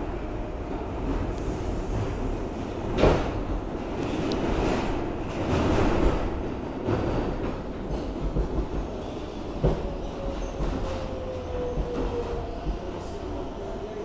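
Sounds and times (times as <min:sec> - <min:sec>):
subway train clattering over joints: 0:00.0 - 0:14.0.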